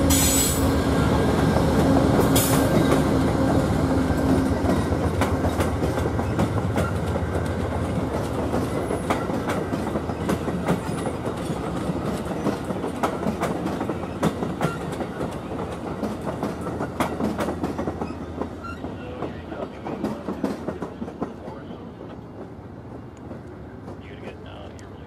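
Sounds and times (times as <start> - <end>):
train wheels clicking over rail joints: 0.0 - 24.2.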